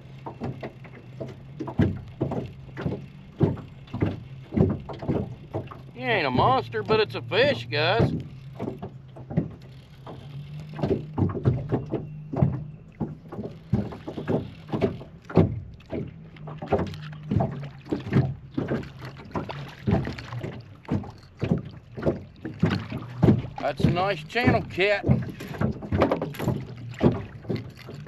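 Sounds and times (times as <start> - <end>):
electric trolling motor hum: 0.0 - 28.0
water slapping against boat hull: 0.0 - 28.0.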